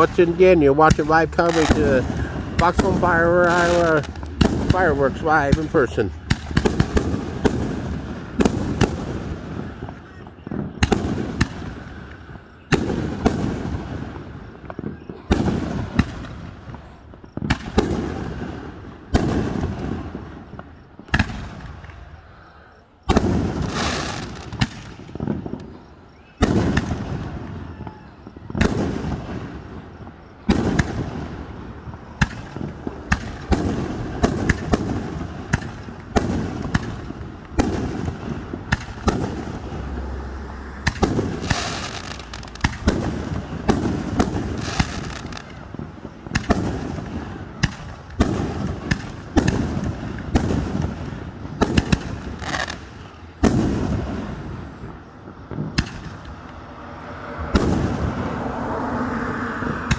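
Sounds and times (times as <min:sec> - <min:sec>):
fireworks bangs and pops: 0:00.0 - 0:56.8, 0:57.4 - 0:59.0, 0:59.6 - 0:59.9.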